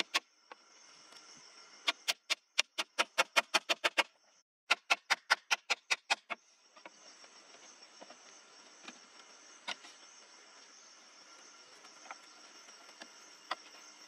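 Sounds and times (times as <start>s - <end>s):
high insect drone: 0.0s - 4.4s, 5.6s - 14.0s.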